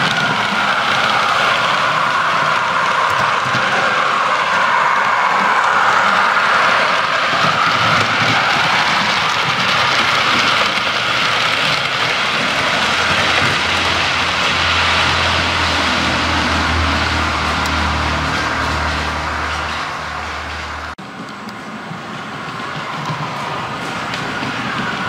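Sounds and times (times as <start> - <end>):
model train engine sound: 0.0 - 25.0
wheel noise on track: 0.0 - 25.0.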